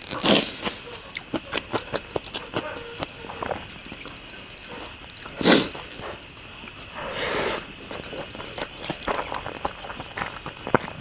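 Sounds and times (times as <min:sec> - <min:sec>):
wet chewing clicks: 0:00.0 - 0:11.0.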